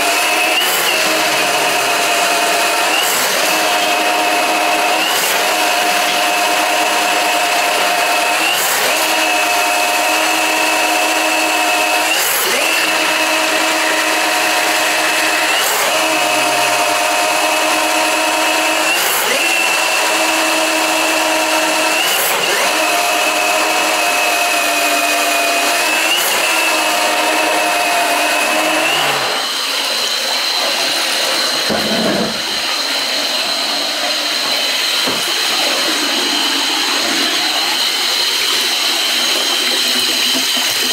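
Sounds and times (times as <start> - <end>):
drain snake motor whine: 0.0 - 40.9.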